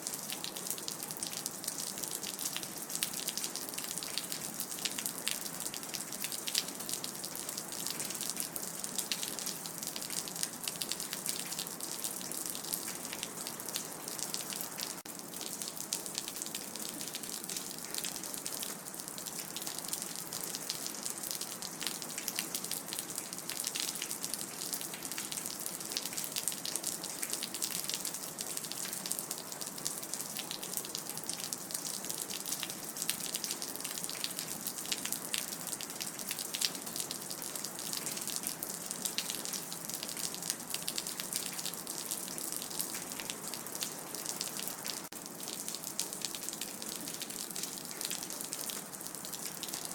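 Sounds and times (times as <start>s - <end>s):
rain dripping and splashing: 0.0s - 49.9s.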